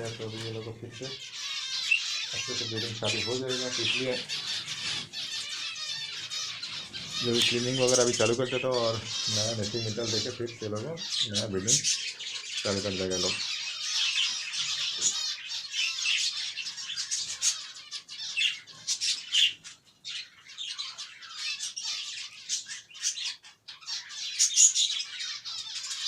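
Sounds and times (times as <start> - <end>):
finches chirping: 0.0 - 26.0.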